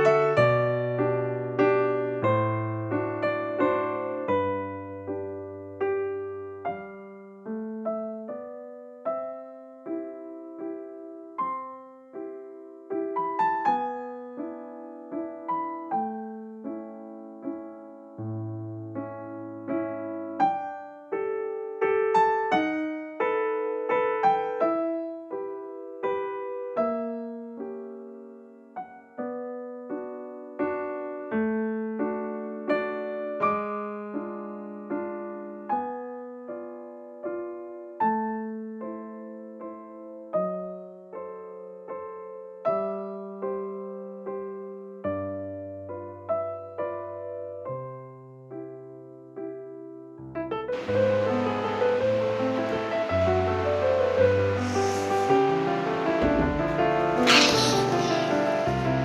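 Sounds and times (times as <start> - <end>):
slow piano melody: 0.0 - 59.0.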